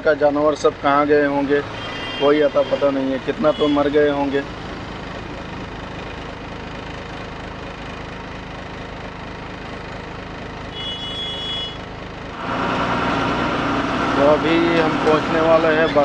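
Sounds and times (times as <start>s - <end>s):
road noise: 0.0s - 16.0s
truck engine droning: 0.0s - 16.0s.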